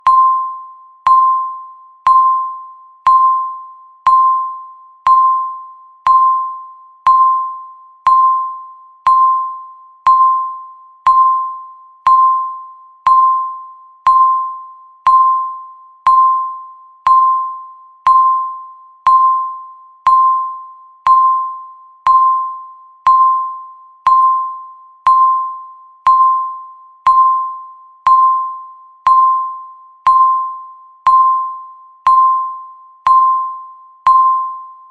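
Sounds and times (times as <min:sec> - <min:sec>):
timer beeps: 0:00.0 - 0:34.9.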